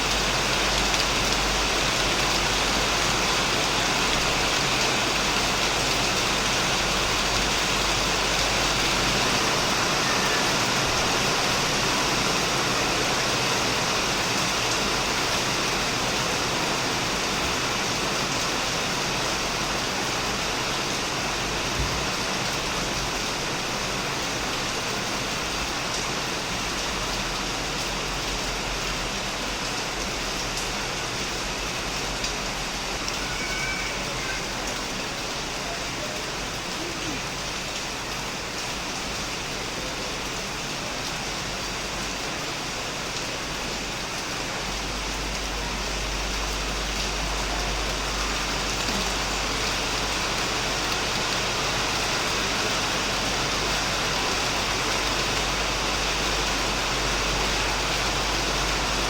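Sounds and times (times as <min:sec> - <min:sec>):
heavy rain on a shed roof: 0:00.0 - 0:59.0.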